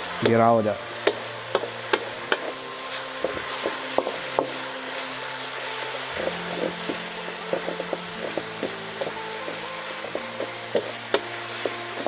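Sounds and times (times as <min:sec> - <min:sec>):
greens sizzling in a wok: 0:00.0 - 0:12.0.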